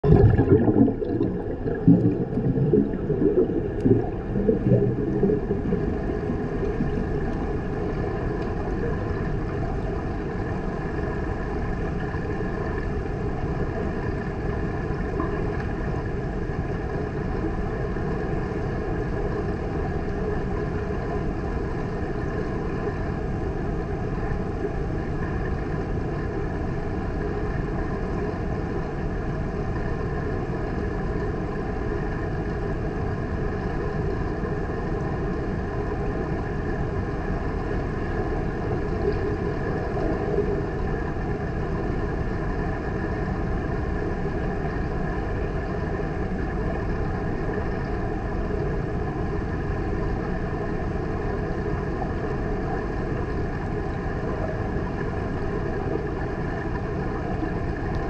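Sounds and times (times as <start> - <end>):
bubbling and gurgling water: 0.0 - 58.0
faint steady hum: 0.0 - 58.0
underwater low rumble: 0.0 - 58.0.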